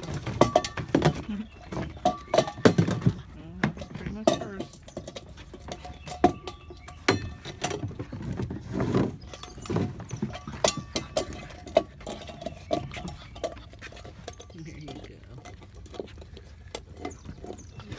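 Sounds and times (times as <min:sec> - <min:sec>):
metal pail clanking: 0:00.0 - 0:17.9
paws scrabbling on wooden deck: 0:00.0 - 0:17.9.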